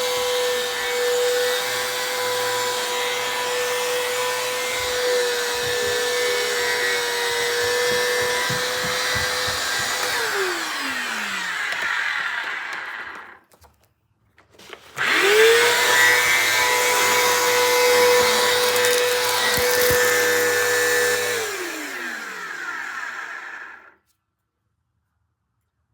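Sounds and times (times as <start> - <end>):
vacuum cleaner running: 0.0 - 13.4, 14.6 - 24.0.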